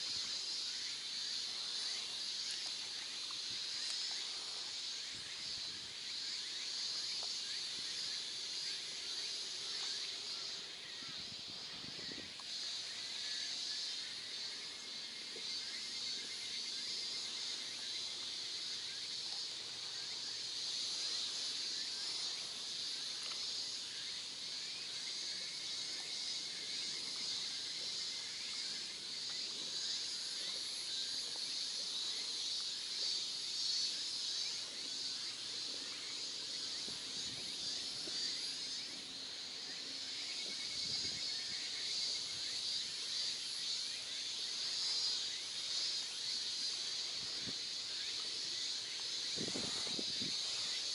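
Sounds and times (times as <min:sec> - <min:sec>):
insect chorus shrilling: 0:00.0 - 0:50.9.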